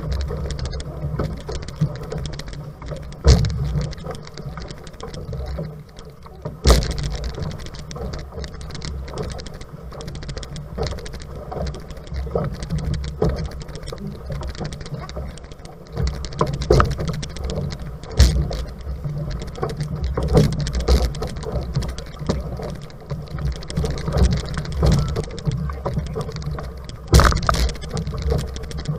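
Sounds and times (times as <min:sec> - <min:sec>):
paddle splashes: 0:00.0 - 0:28.9
water slapping a hull: 0:00.0 - 0:28.9.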